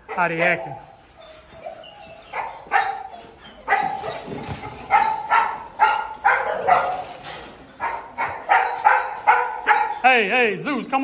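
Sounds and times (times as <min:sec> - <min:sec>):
dogs barking: 0:00.0 - 0:10.3.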